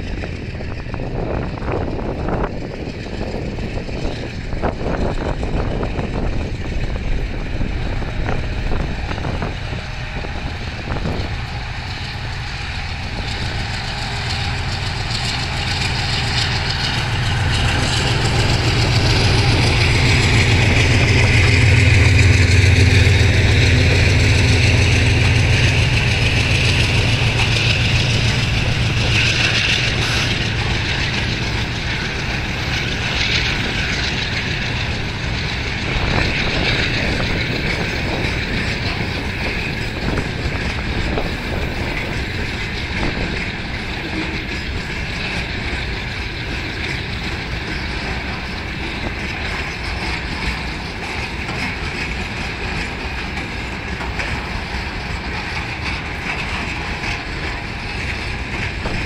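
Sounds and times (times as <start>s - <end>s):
diesel locomotive engine hum: 0.0s - 59.0s
train wheels clattering over rail joints: 0.0s - 59.0s.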